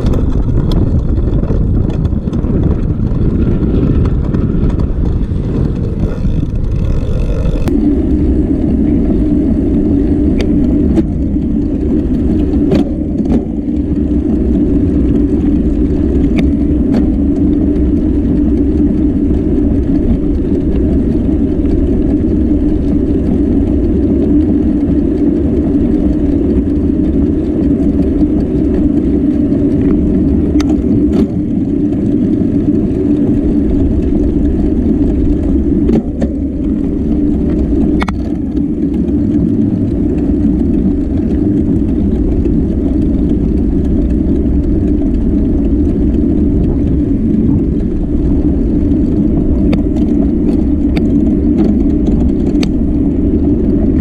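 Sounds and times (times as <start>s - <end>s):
bicycle tyre road noise: 0.0s - 54.0s
wind buffeting microphone: 0.0s - 54.0s.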